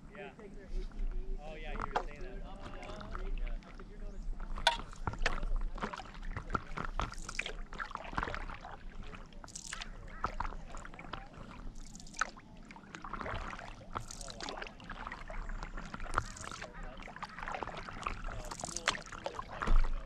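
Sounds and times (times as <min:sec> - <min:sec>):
paddle strokes splashing water: 0:00.7 - 0:20.0
water clicking against board: 0:01.7 - 0:20.0.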